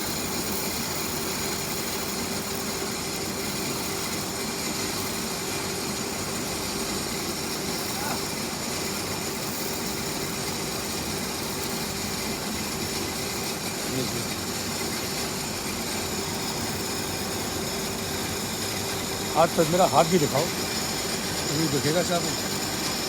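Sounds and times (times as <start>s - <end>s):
machine whirring and humming: 0.0s - 23.0s.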